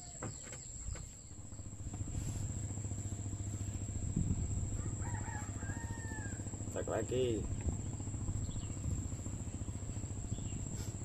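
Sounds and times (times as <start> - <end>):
motor engine low drone: 0.0 - 11.0
high-pitched whine: 1.3 - 11.0.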